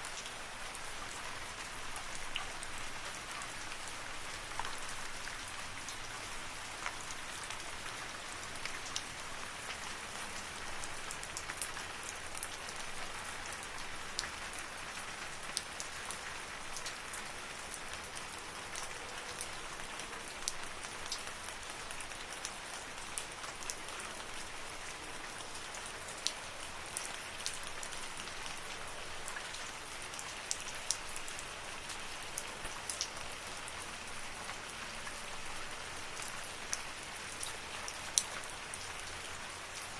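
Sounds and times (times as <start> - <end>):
rain falling in forest: 0.0 - 39.9
raindrops ticking on surfaces: 0.0 - 39.9.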